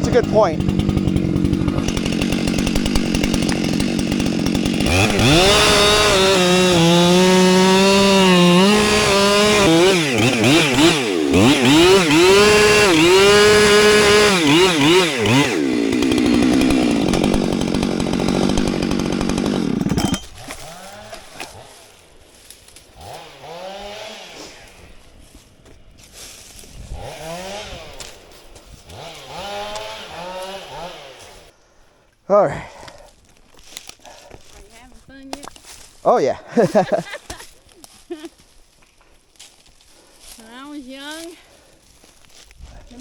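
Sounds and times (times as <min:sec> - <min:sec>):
chainsaw cutting wood: 0:00.0 - 0:31.6, 0:32.8 - 0:35.9, 0:36.5 - 0:43.0.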